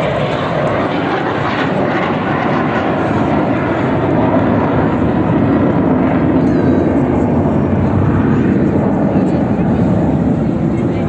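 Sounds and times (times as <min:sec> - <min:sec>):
aircraft engine flying by: 0:00.0 - 0:11.0.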